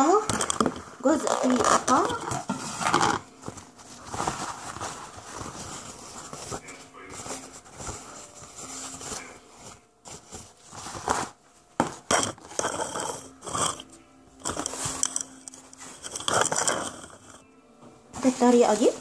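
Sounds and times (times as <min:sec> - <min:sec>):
paper towels tearing and rustling: 0:00.0 - 0:17.4, 0:18.2 - 0:19.0.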